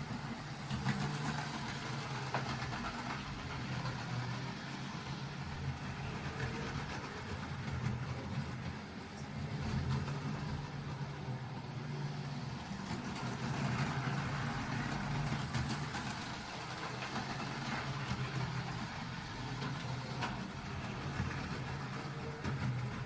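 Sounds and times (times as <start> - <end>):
model train motor hum: 0.0 - 23.0
wheels clicking on rails: 0.0 - 23.0.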